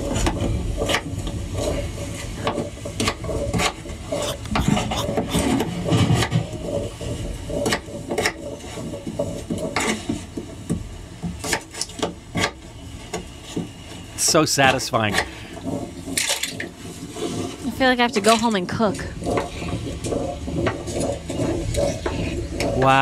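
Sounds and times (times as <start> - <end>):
knife rasping through potatoes: 0.0 - 10.3, 13.5 - 23.0.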